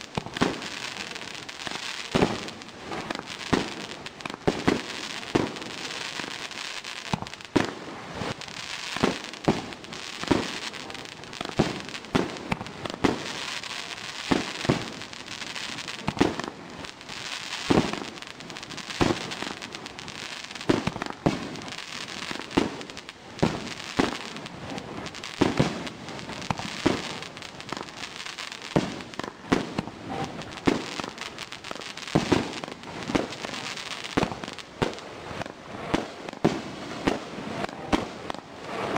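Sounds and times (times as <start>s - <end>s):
firework bangs: 0.0s - 38.9s
hissing of burning fireworks: 0.0s - 38.9s.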